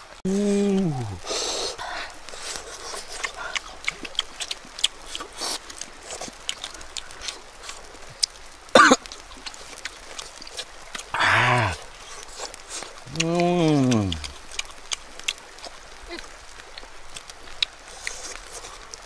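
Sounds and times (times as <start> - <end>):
people chewing and lip-smacking: 0.8 - 19.0.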